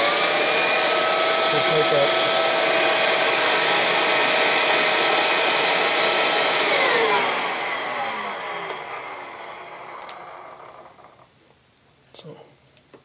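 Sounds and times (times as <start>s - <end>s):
upright vacuum running: 0.0s - 11.3s
vacuum motor spinning down: 0.0s - 11.3s.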